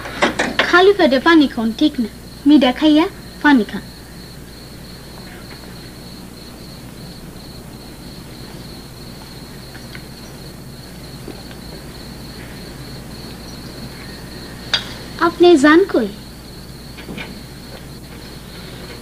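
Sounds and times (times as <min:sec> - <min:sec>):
crickets chirring: 0:00.0 - 0:19.0
low electrical hum: 0:00.0 - 0:19.0.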